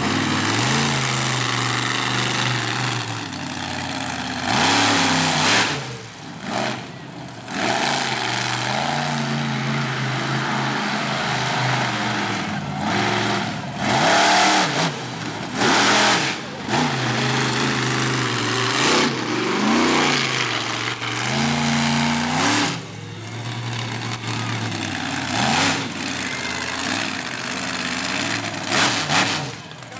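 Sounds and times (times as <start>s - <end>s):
monster truck engine revving: 0.0s - 29.9s.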